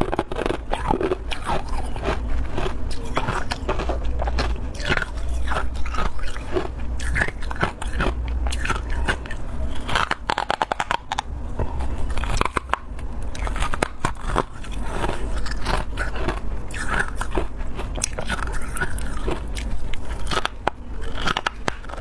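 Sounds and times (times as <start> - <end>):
chewing frost crunches: 0.0 - 22.0.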